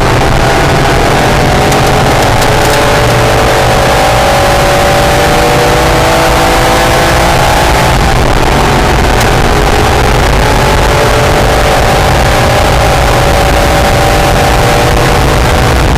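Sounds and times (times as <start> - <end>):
car engine under way: 0.0 - 15.9
road and wind noise: 0.0 - 15.9.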